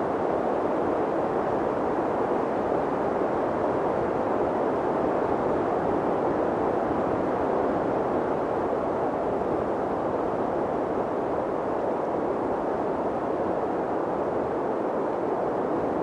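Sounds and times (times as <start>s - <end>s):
wind blowing steadily: 0.0s - 16.0s.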